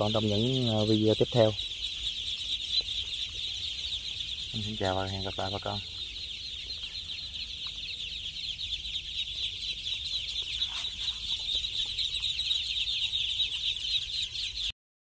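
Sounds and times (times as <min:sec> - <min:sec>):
ducklings peeping: 0:00.0 - 0:14.7.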